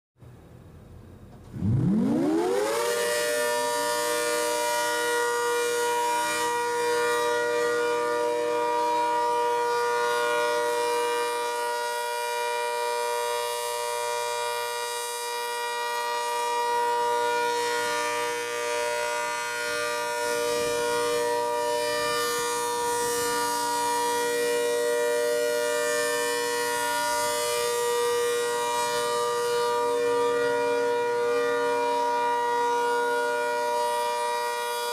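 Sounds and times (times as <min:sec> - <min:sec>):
warning siren winding up: 0:01.4 - 0:34.9.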